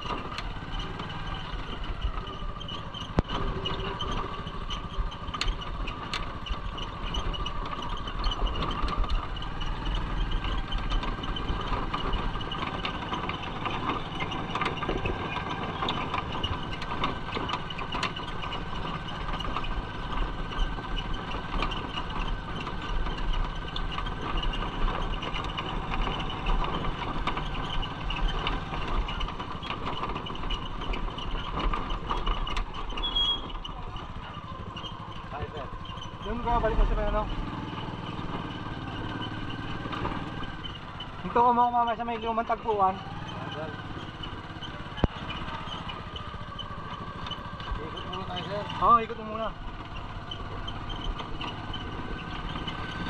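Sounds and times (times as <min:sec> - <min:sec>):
rattles on cobblestones: 0:00.0 - 0:53.0
small motorcycle engine running: 0:00.0 - 0:53.0.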